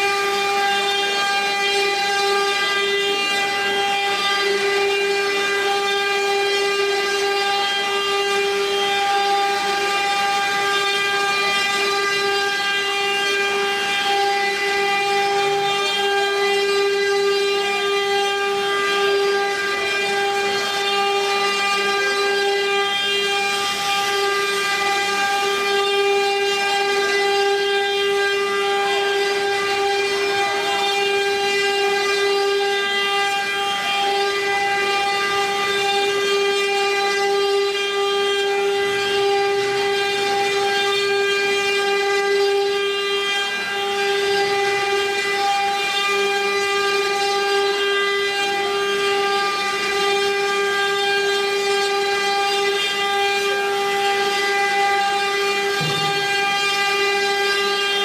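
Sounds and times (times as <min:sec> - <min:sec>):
router spindles high whine: 0:00.0 - 0:58.0.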